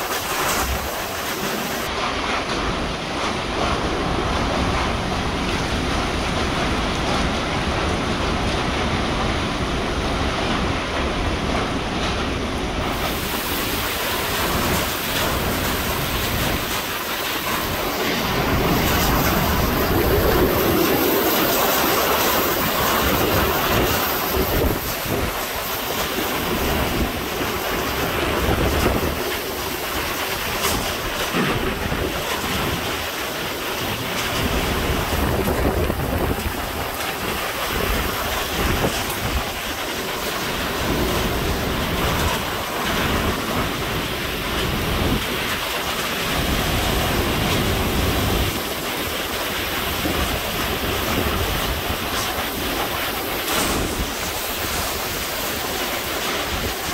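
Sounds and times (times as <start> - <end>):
wind and driving rain: 0.0 - 56.9
wind buffeting microphone: 0.0 - 56.9.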